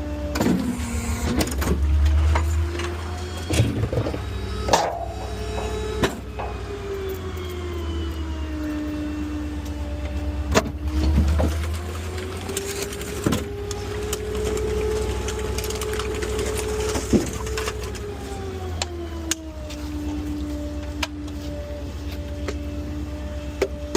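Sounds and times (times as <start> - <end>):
garbage truck hydraulic whine: 0.0 - 23.9
low engine hum: 0.0 - 23.9.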